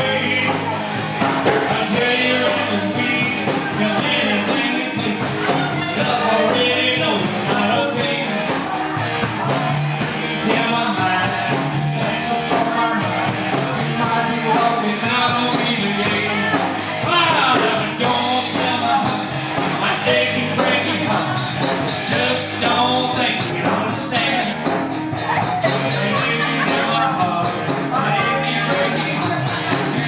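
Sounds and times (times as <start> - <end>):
guitar: 0.0 - 30.0
live rock and roll band: 0.0 - 30.0
person singing: 0.0 - 30.0.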